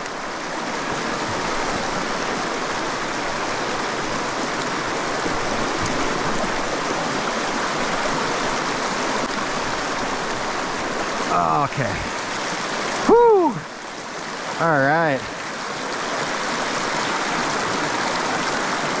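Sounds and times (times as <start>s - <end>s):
creek flowing: 0.0s - 19.0s.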